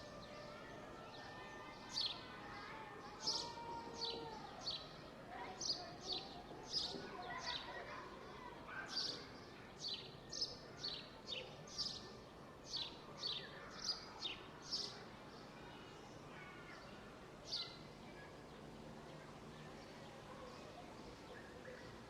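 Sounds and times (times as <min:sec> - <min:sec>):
outdoor ambient murmur: 0:00.0 - 0:22.0.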